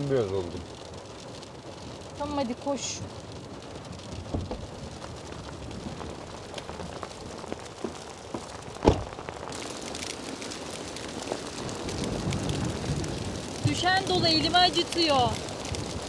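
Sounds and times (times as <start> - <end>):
hailstones striking: 0.0 - 16.0
heavy rain hissing: 0.0 - 16.0.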